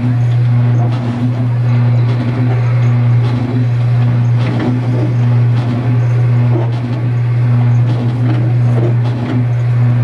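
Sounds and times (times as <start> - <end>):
kiddie ride low hum: 0.0 - 10.0.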